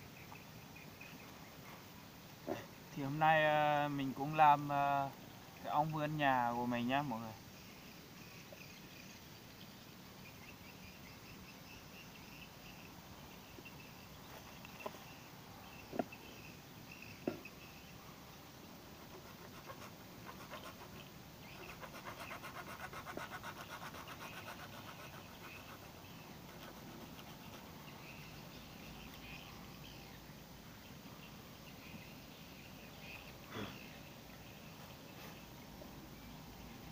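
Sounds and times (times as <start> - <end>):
faint outdoor background: 0.0 - 36.9.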